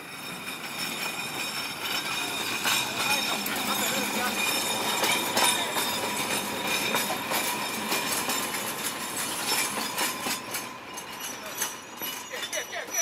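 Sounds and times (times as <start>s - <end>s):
high wheel squeal: 0.0s - 13.0s
steel wheels clanking over rails: 0.0s - 13.0s.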